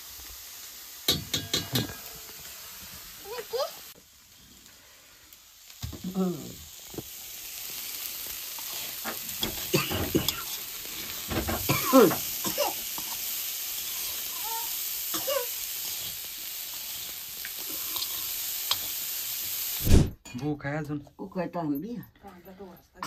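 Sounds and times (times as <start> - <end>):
food sizzling in hot oil: 0.0 - 20.1.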